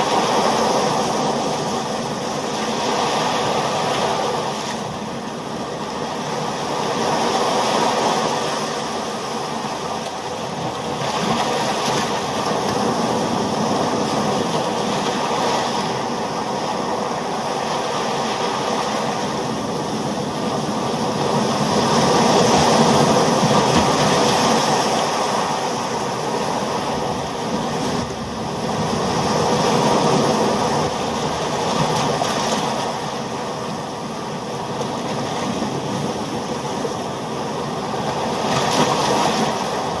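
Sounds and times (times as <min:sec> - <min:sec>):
ocean waves washing: 0:00.0 - 0:40.0.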